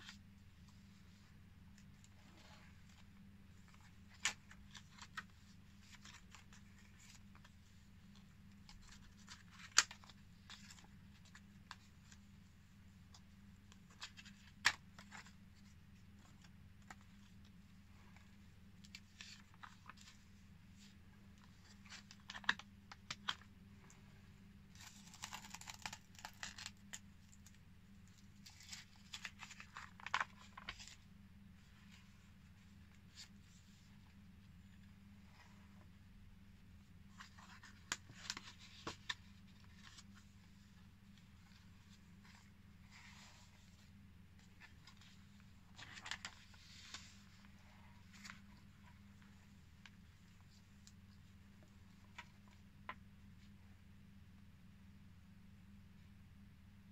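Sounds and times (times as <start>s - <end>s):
paper pages rustling: 0.0s - 12.4s, 13.1s - 24.1s, 24.7s - 34.2s, 37.0s - 52.7s
faint steady hum: 0.0s - 56.9s.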